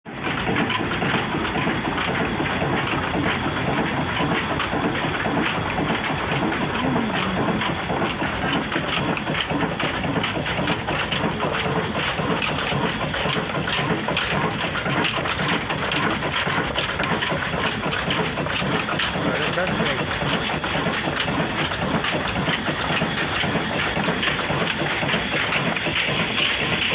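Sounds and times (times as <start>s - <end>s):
diesel engine running: 0.1s - 26.9s.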